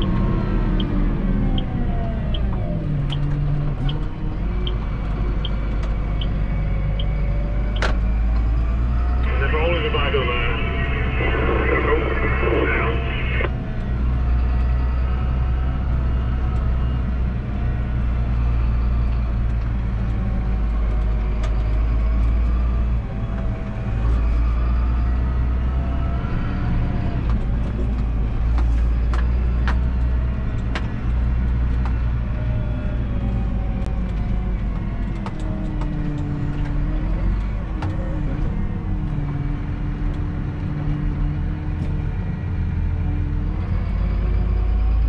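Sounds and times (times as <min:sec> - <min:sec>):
tractor diesel engine droning: 0:00.0 - 0:45.0.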